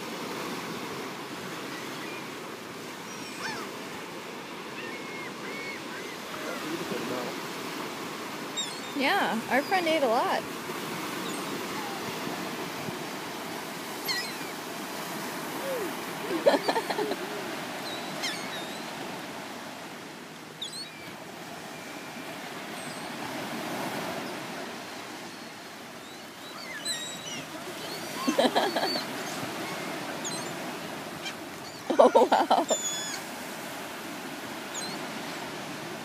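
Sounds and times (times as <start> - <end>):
surf washing on sandy beach: 0.0 - 36.0.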